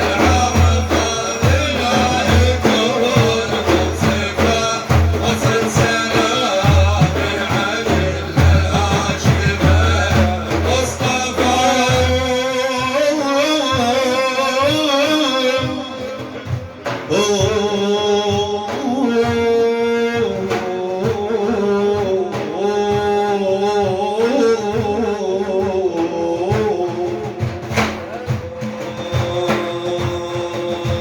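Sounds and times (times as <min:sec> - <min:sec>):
steady drum beat: 0:00.0 - 0:31.0.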